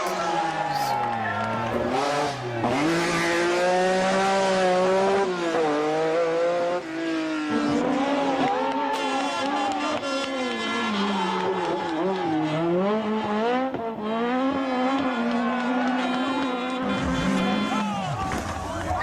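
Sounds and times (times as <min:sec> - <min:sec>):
car engine revving through gears: 0:00.0 - 0:19.0.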